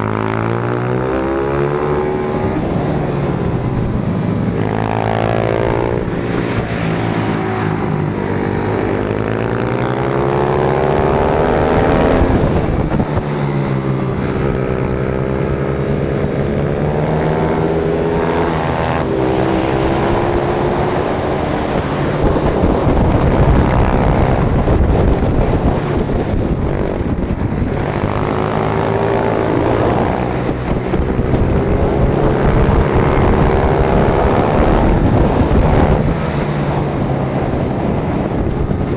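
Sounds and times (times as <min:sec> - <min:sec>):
motorbike engine revving hard: 0:04.5 - 0:38.9.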